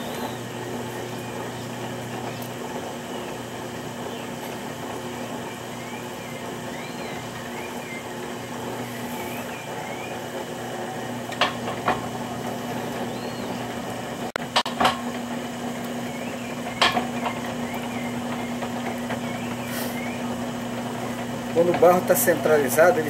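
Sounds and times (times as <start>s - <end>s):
potter's wheel humming: 0.0s - 23.0s.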